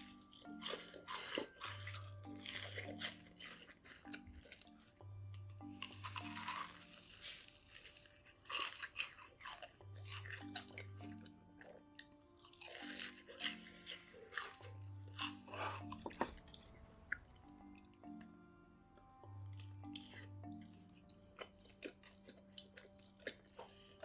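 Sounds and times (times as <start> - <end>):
crunchy chewing: 0.0 - 18.2, 19.0 - 24.0.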